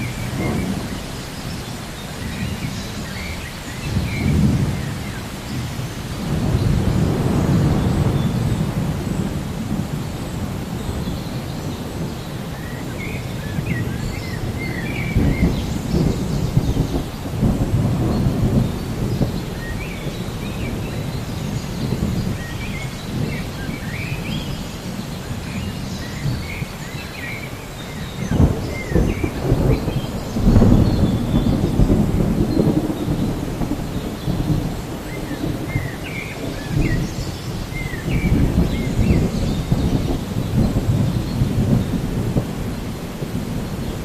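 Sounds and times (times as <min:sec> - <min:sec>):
rain falling steadily: 0:00.0 - 0:44.0
thunder rumbling: 0:00.0 - 0:44.0.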